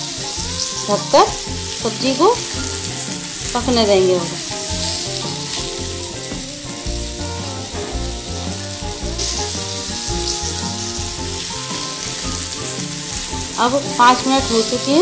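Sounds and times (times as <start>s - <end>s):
background music: 0.0s - 15.0s
fruit sizzling in oil: 0.0s - 15.0s.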